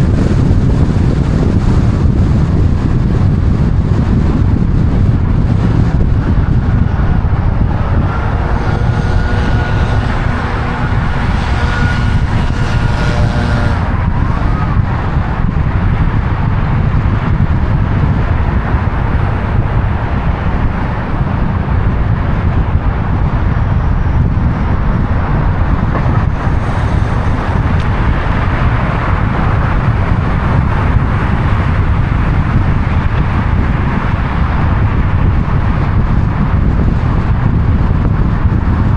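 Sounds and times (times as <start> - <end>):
low rumble of road traffic: 0.0 - 38.9
multi-tone whine: 3.7 - 36.0.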